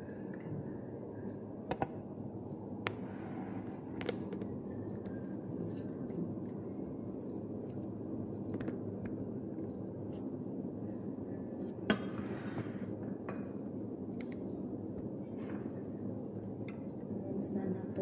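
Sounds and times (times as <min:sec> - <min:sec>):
low kitchen room hum: 0:00.0 - 0:18.0.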